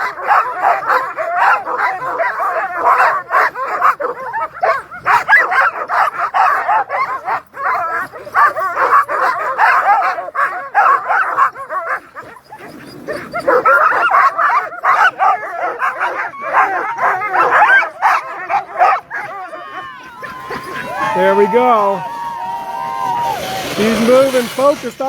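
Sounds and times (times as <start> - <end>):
sled dogs barking and yipping: 0.0 - 25.0.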